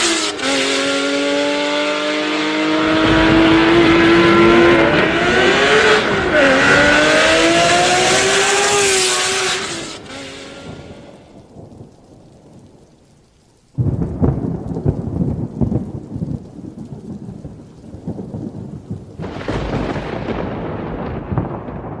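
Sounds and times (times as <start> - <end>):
heavy rain hissing: 0.0 - 20.5
thunder clap rumbling: 2.4 - 13.0, 13.8 - 22.0.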